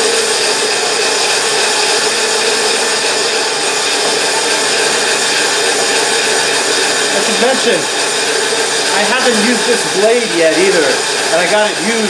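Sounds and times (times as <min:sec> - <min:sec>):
bandsaw running: 0:00.0 - 0:12.0.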